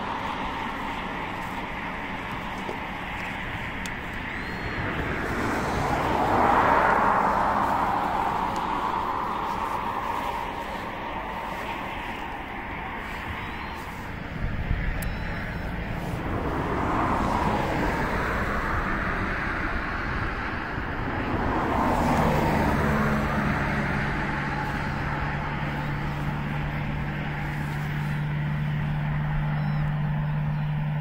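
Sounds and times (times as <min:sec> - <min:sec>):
background traffic rumble: 0:00.0 - 0:31.0
steady low hum: 0:00.0 - 0:31.0
vehicles driving past: 0:00.0 - 0:31.0.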